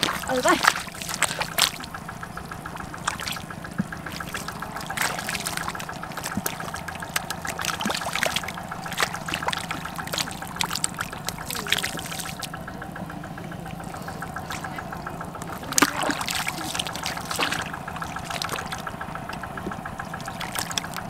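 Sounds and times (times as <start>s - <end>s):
sharp splats: 0.0s - 12.7s, 13.3s - 21.0s
low steady hum: 0.0s - 21.0s
mud and water squelching: 0.0s - 21.0s.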